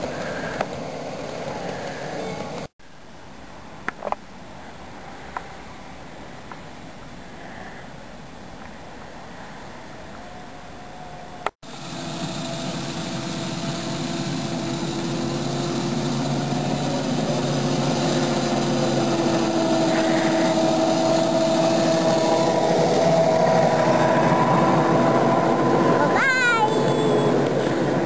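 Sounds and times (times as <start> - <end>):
small locomotive engine hum: 0.0 - 28.0.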